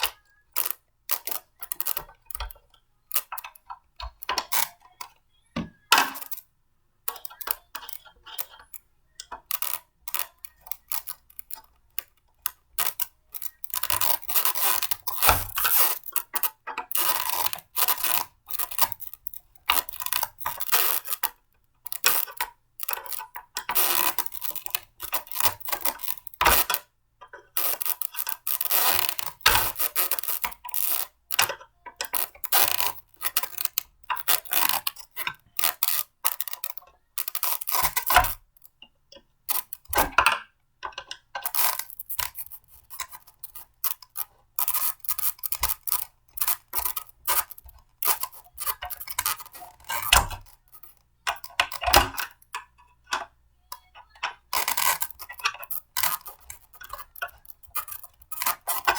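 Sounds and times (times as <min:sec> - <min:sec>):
plastic and metal parts clicking: 0:00.0 - 0:58.9.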